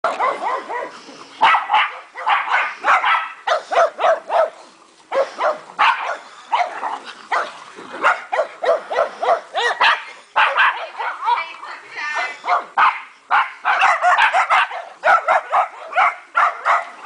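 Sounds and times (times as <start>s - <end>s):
dogs barking: 0.0s - 11.5s, 12.2s - 17.0s.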